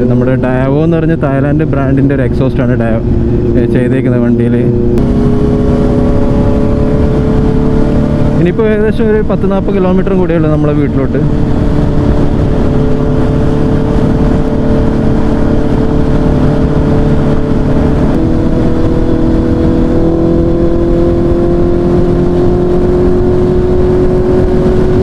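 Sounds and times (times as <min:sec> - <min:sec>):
motorcycle engine on the road: 0:00.0 - 0:25.0.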